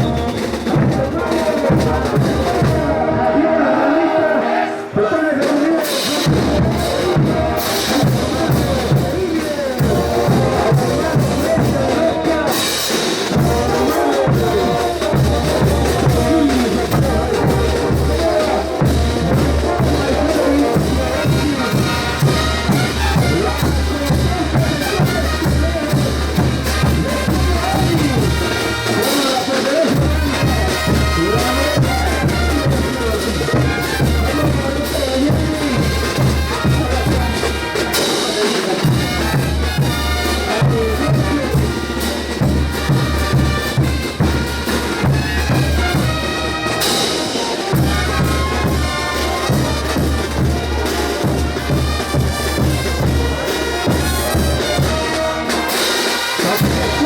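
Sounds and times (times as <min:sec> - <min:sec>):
brass band playing dance music: 0:00.0 - 0:57.0.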